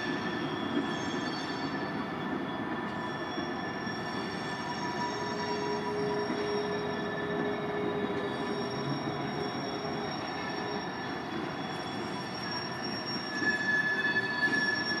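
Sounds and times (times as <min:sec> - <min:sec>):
rumble of passing train cars: 0:00.0 - 0:15.0
train wheels squealing on rails: 0:00.0 - 0:15.0.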